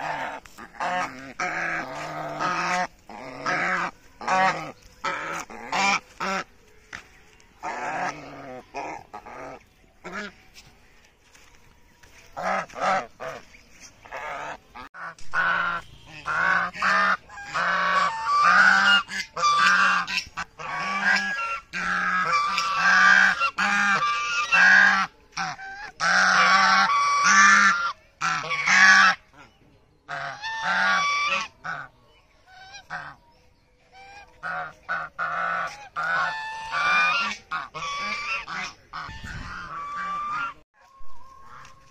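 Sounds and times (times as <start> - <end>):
geese honking: 0.0 - 41.9.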